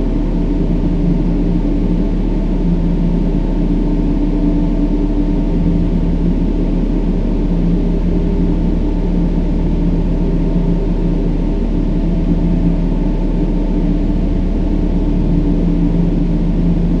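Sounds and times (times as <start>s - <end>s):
low held hum: 0.0s - 17.0s.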